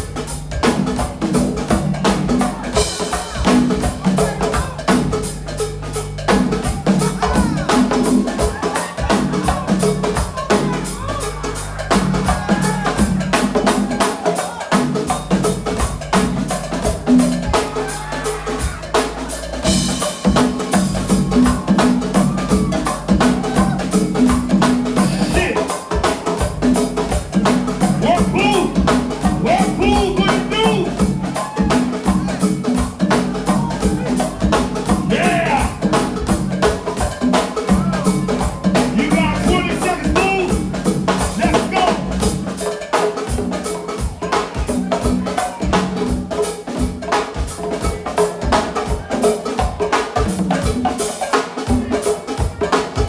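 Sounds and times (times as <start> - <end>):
drum kit: 0.0 - 53.0
fast hand percussion: 0.0 - 53.0
live band music: 0.0 - 53.0.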